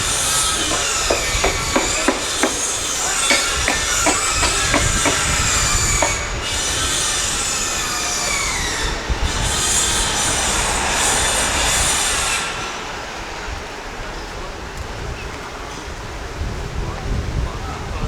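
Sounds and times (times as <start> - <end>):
wheels clicking over rail joints: 0.0 - 16.0
train wheels squealing on rails: 0.0 - 16.1.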